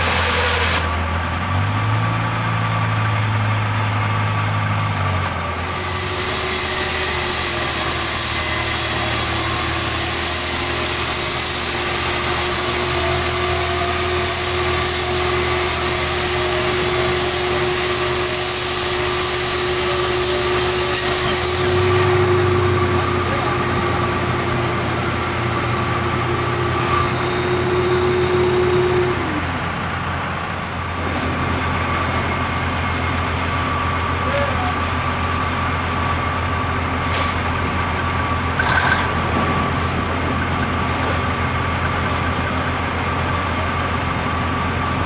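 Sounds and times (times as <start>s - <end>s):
concrete saw cutting concrete: 0.0s - 45.0s
engine humming: 0.0s - 45.0s.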